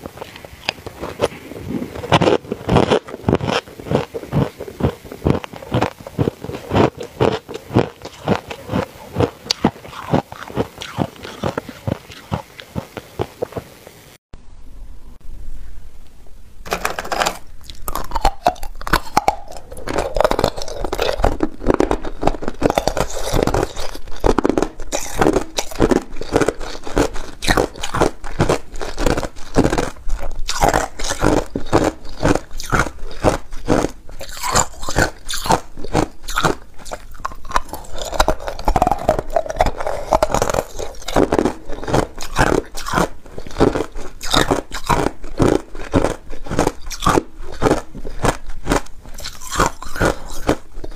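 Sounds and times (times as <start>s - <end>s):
ice being chewed: 0.0s - 14.0s, 16.7s - 50.9s.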